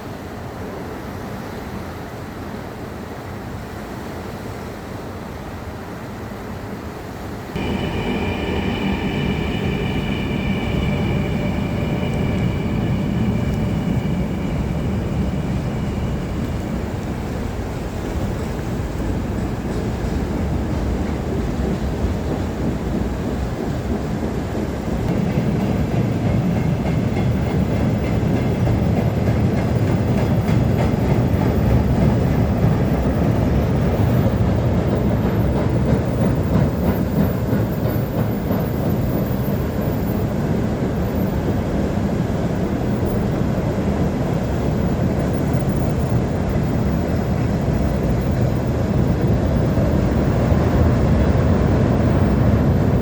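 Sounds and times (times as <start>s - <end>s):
train wheels clattering on rails: 7.6s - 53.0s.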